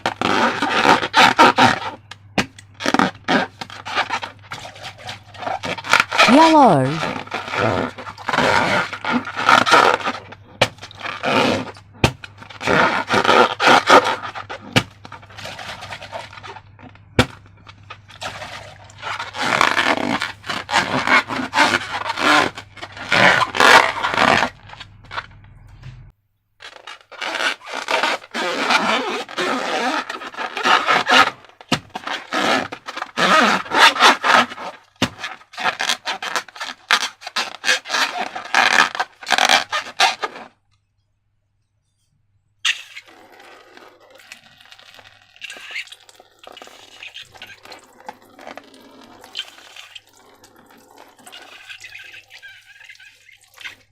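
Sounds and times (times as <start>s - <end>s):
slime scraping and squishing: 0.0s - 25.6s, 26.6s - 40.6s, 42.6s - 53.9s.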